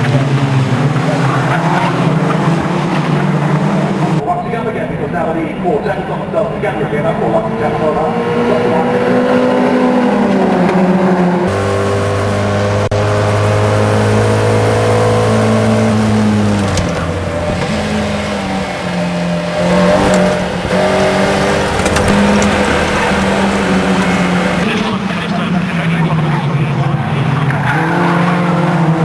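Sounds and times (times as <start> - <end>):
race car engine changing gear: 0.0 - 4.2, 7.0 - 29.0.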